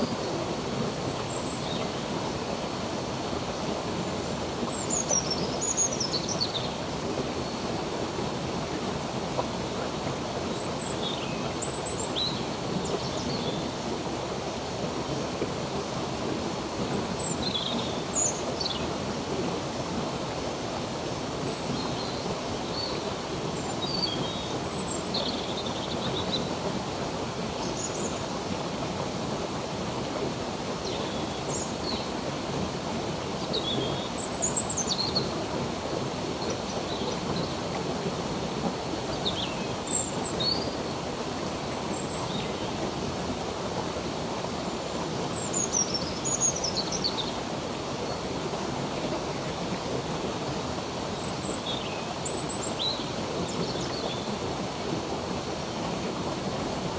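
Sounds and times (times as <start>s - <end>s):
stream running: 0.0s - 56.9s.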